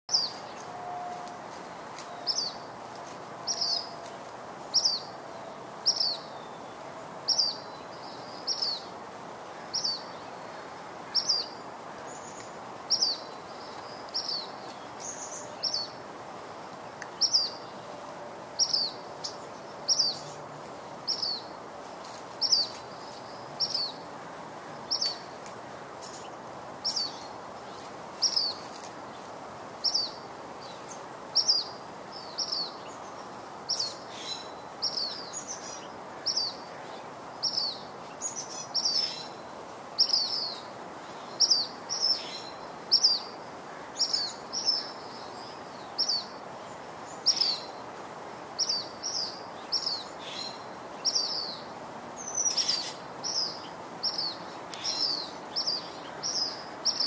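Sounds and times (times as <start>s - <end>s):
bird chirping: 0.1s - 8.9s, 11.1s - 16.0s, 18.6s - 21.6s, 26.0s - 39.4s, 40.0s - 43.4s, 44.0s - 47.8s, 48.6s - 57.0s
steady background hiss: 0.1s - 57.0s.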